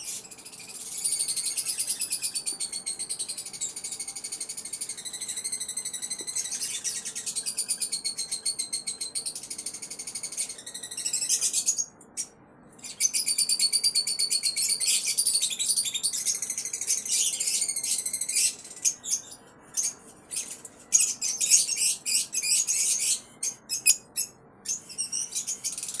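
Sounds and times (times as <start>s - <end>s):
pet birds chirping: 0.0s - 26.0s.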